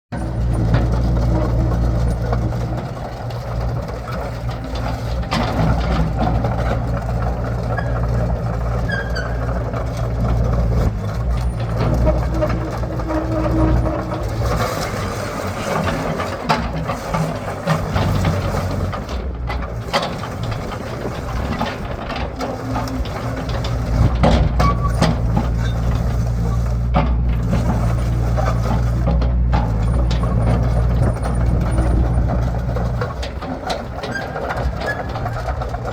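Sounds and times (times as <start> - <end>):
diesel machinery engine drone: 0.1 - 35.9
knocks and clanks: 0.1 - 35.9.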